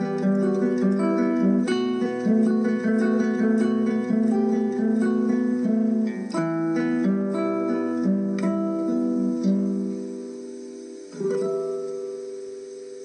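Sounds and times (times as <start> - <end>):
slow plucked string melody: 0.0 - 13.0.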